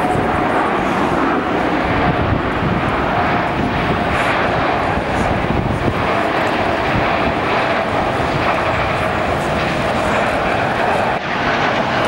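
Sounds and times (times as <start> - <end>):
jet engines roaring past: 0.0 - 12.0.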